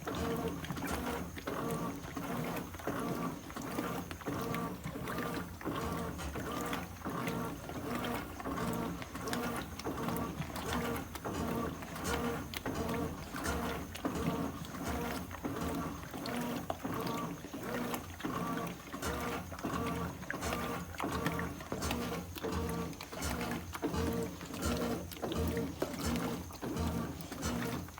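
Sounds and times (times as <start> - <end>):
washing machine motor whine: 0.0 - 27.9
water sloshing: 0.0 - 27.9.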